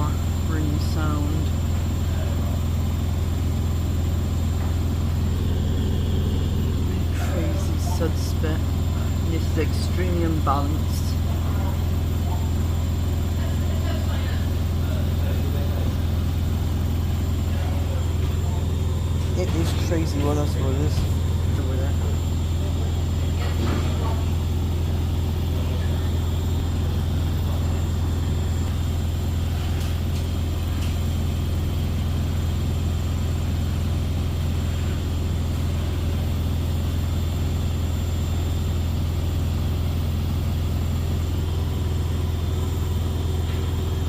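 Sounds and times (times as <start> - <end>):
washing machine spinning: 0.0 - 44.0.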